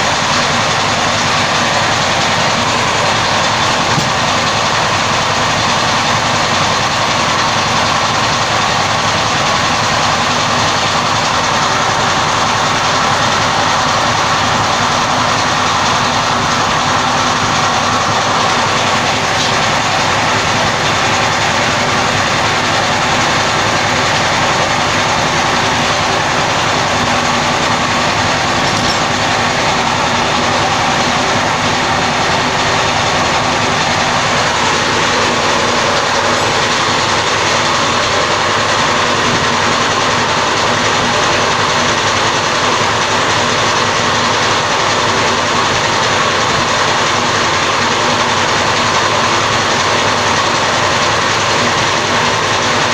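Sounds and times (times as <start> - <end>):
large diesel engine running: 0.0 - 52.9.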